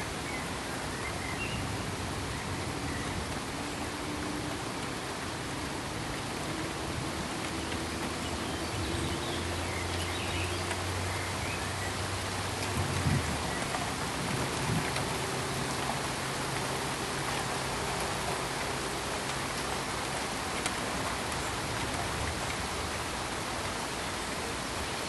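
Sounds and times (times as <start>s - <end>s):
pink noise hiss: 0.0s - 25.0s.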